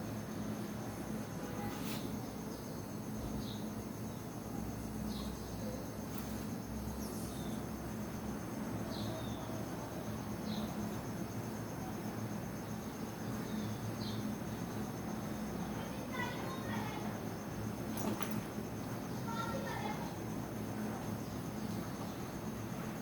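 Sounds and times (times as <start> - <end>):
insect trill: 0.0 - 23.0
low background hum: 0.0 - 23.0.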